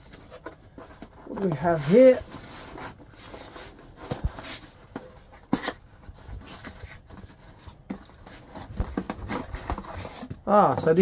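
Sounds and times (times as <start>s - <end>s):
packaging rubbing and scraping: 0.0s - 11.0s.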